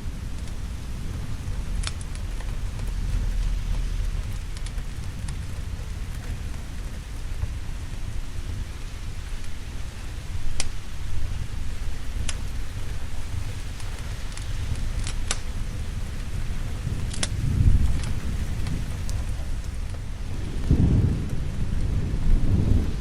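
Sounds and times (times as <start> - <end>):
low rolling thunder: 0.0 - 23.0
steady rain: 0.0 - 23.0.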